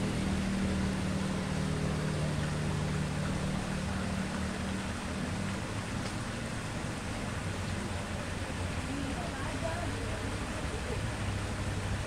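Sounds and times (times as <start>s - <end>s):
low steady hum: 0.0s - 12.0s
water rushing over weir: 0.0s - 12.0s.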